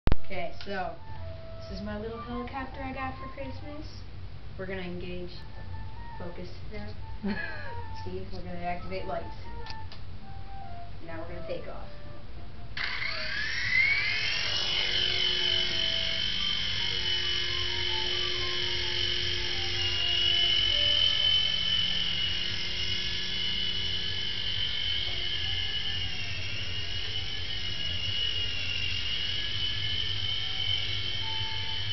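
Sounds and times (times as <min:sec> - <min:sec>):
toy helicopter rotor whine: 0:01.2 - 0:04.1, 0:05.3 - 0:12.1, 0:12.7 - 0:31.9.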